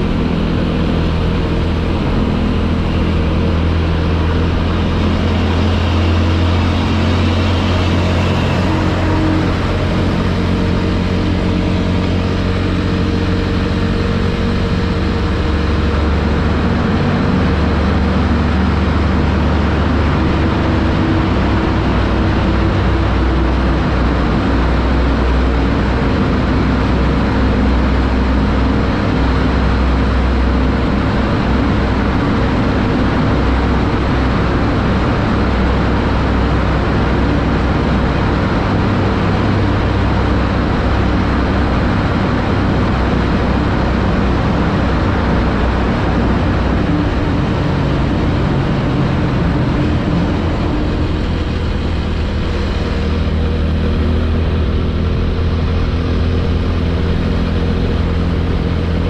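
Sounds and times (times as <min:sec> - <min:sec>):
motorcycle engine cruising: 0:00.0 - 0:59.0
road noise: 0:00.0 - 0:59.0
wind noise: 0:00.0 - 0:59.0.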